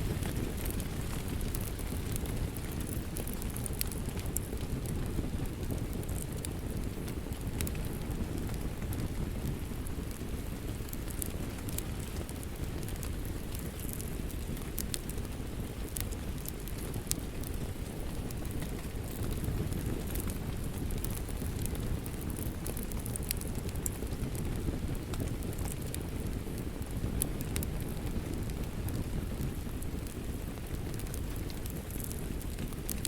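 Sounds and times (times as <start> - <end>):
steady rain: 0.0 - 33.0
wood fire crackling and popping: 0.0 - 33.0.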